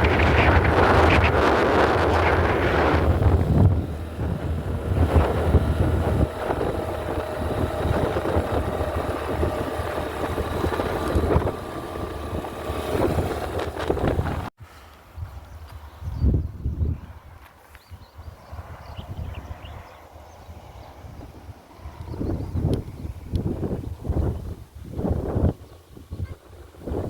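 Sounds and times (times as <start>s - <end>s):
wind buffeting microphone: 0.0s - 14.5s, 15.1s - 27.0s.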